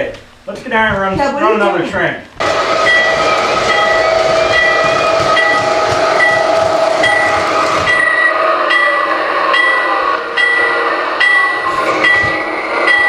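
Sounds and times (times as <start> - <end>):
toy train running: 2.4 - 13.0.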